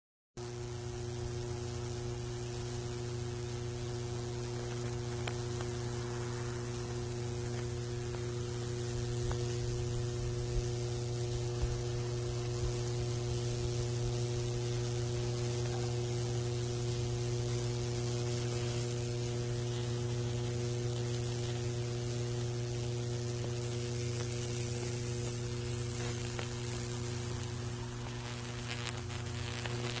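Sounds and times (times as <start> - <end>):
electric arc humming and crackling: 0.4 - 30.0.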